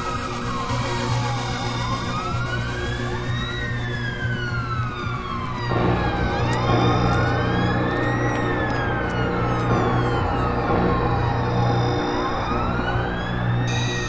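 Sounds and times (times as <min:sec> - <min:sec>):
emergency sirens wailing: 0:00.0 - 0:14.0.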